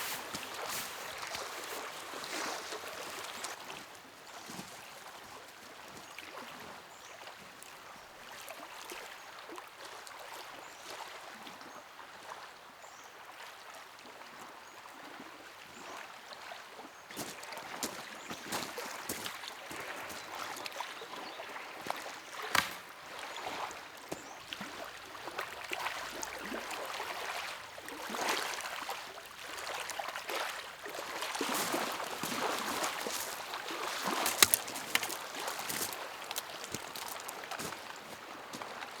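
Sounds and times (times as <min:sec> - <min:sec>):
waves lapping against shore: 0:00.0 - 0:11.0, 0:15.9 - 0:39.0.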